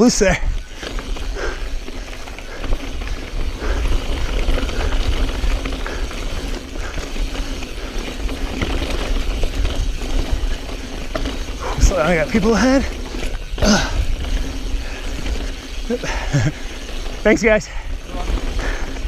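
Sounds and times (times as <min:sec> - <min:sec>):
bike rattling over stones: 0:00.0 - 0:19.0
tyres grinding over gravel: 0:00.6 - 0:19.0.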